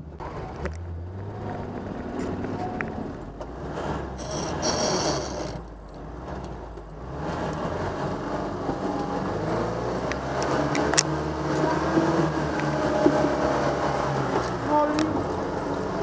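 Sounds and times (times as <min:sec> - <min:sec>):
off-road vehicle engine: 0:00.0 - 0:16.0.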